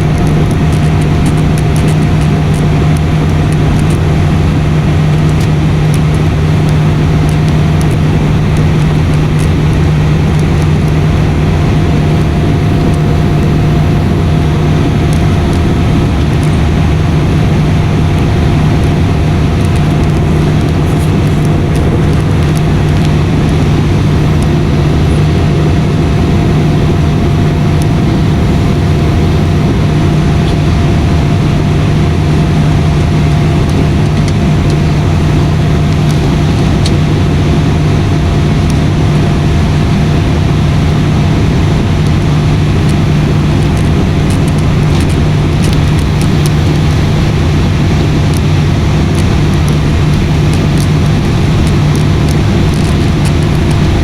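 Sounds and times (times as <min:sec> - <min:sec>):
airliner cabin drone: 0:00.0 - 0:54.0.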